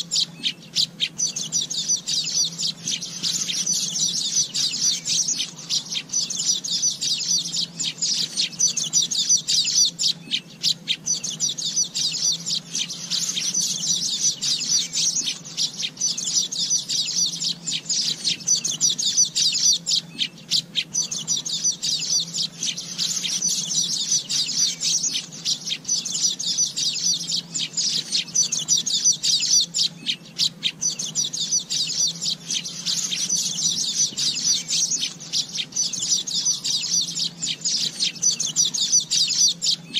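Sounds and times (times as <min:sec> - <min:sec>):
birds chattering high chirps: 0:00.0 - 0:39.9.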